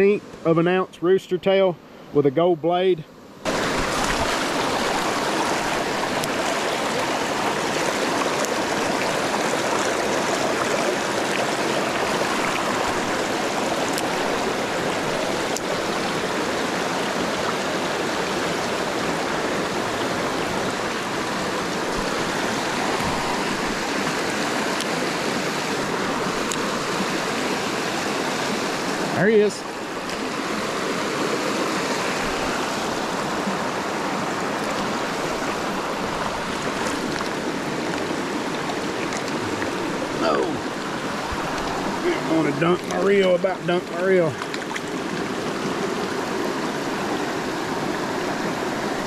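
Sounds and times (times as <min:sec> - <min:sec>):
creek water rushing: 0:00.0 - 0:49.0.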